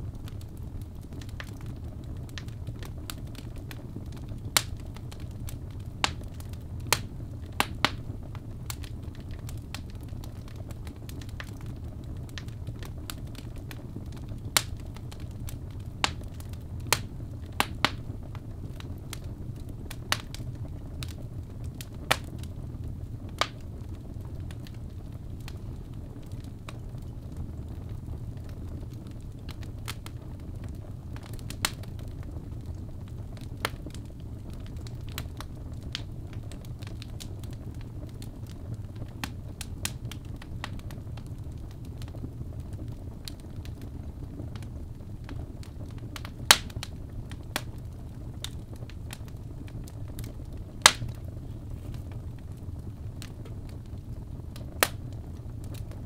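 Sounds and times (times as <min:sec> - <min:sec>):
fire crackling and popping: 0:00.0 - 0:56.0
low rumble of burning: 0:00.0 - 0:56.0.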